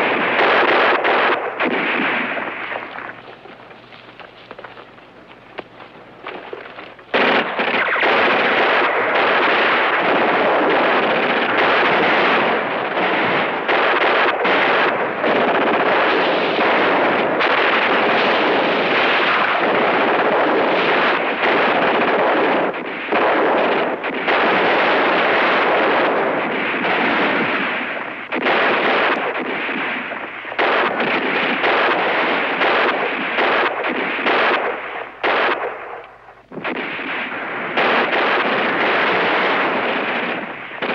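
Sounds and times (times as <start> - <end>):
rifles and machine guns firing: 0.0 - 40.9.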